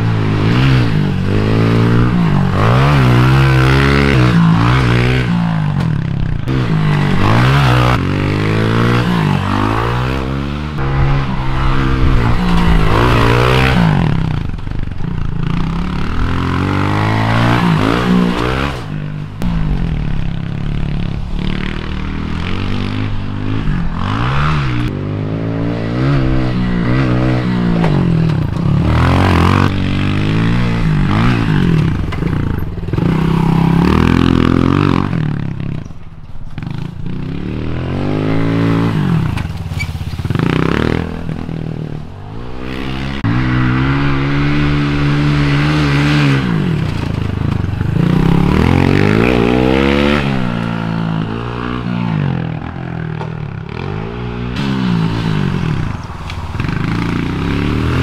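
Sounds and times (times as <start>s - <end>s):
dirt bike engine revving: 0.0s - 36.0s, 36.6s - 58.0s.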